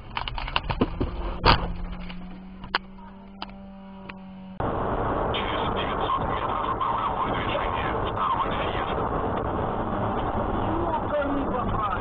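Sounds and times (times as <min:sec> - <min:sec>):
road and wind noise inside car: 0:00.0 - 0:12.0.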